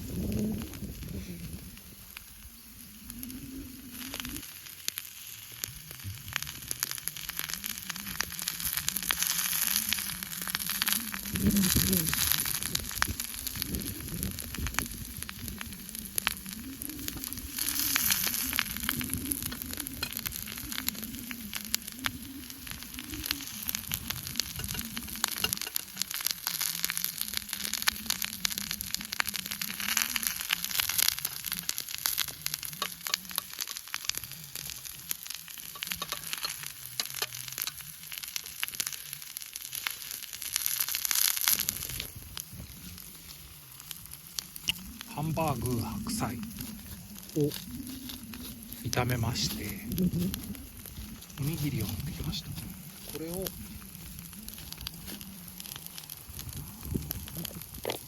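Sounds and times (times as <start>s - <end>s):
meat frying in a pan: 0.0s - 58.0s.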